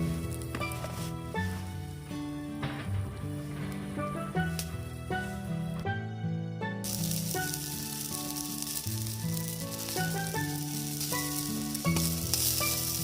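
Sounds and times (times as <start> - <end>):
fish sizzling: 0.0 - 2.6, 3.2 - 5.8, 6.8 - 13.0
background music: 0.0 - 13.0.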